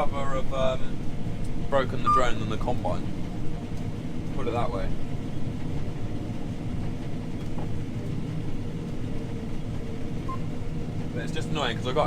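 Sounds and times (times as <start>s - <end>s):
combine harvester rumbling: 0.0s - 12.0s.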